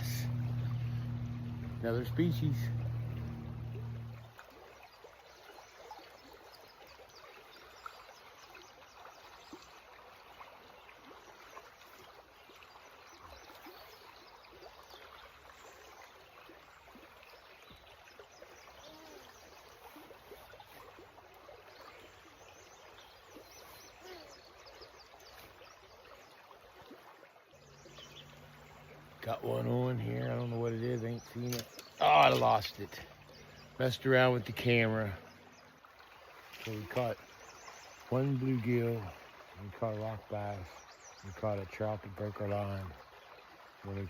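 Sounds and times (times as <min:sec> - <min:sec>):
creek flowing and babbling: 0:00.0 - 0:44.0.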